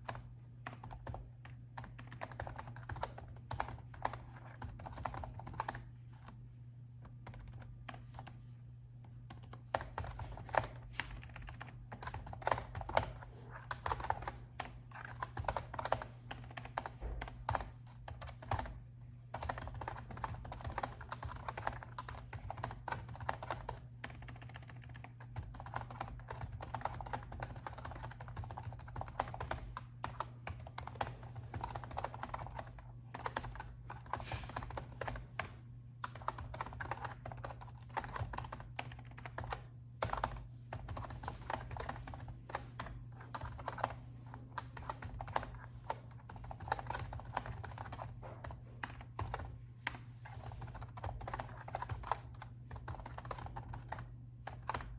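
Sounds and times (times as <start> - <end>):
typing on laptop keyboard: 0.0 - 6.4, 7.0 - 54.9.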